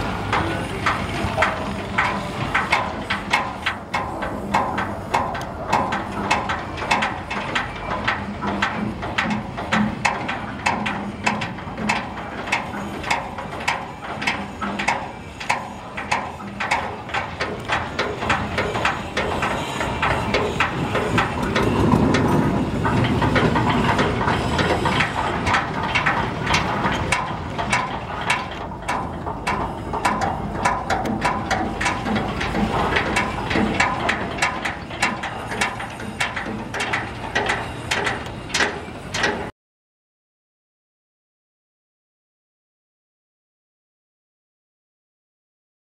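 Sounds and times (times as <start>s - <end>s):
boat diesel engine clattering: 0.0s - 39.5s.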